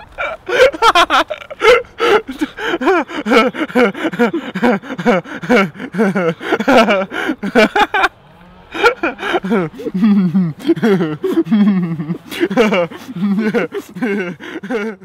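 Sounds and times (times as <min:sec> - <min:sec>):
man laughing hysterically: 0:00.0 - 0:15.0.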